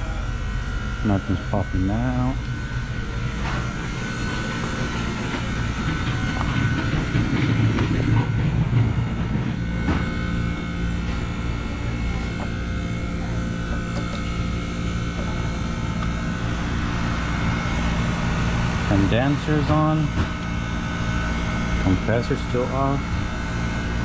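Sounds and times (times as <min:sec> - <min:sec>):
fan motor humming: 0:00.0 - 0:24.0.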